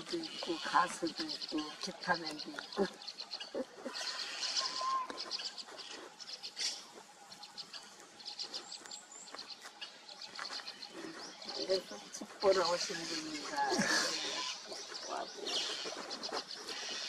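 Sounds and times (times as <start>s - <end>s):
nestlings begging calls: 0.0s - 17.0s.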